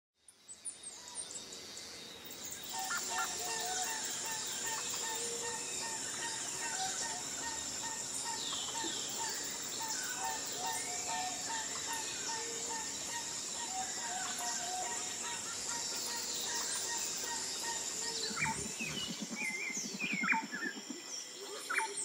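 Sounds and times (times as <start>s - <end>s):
birds chirping and whistling: 2.6s - 22.0s
steady high-pitched drone: 2.6s - 22.0s.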